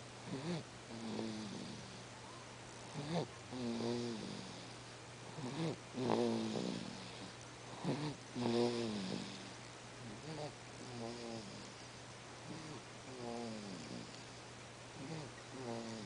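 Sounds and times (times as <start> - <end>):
baby snoring grunts: 0.2 - 2.0, 2.8 - 11.8, 12.4 - 14.2, 15.0 - 16.0.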